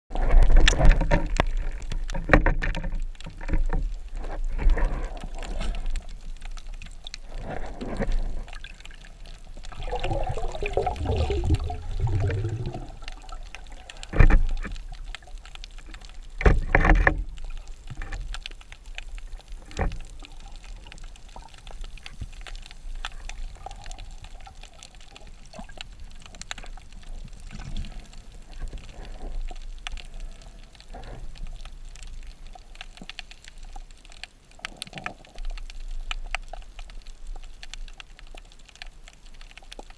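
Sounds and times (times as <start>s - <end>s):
low underwater rumble: 0.1s - 33.8s.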